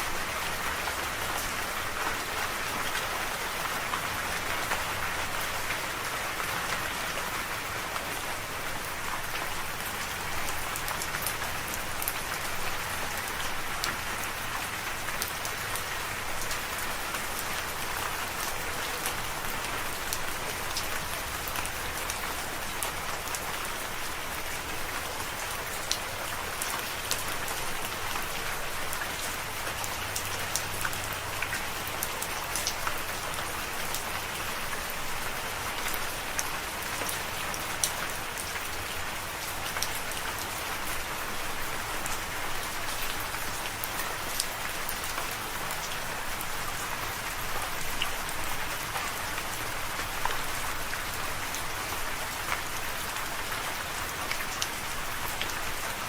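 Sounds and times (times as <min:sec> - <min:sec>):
steady rain hiss: 0:00.0 - 0:56.0
raindrops ticking close by: 0:00.1 - 0:56.0.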